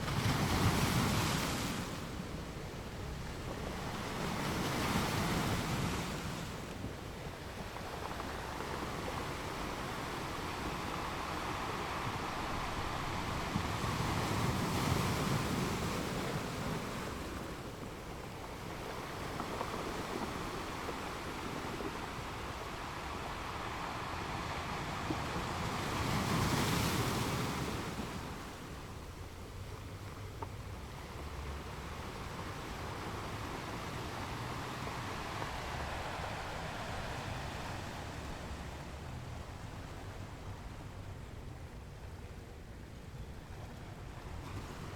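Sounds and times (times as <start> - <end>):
waves crashing on rocks: 0.0 - 41.4
surf washing: 0.0 - 44.9.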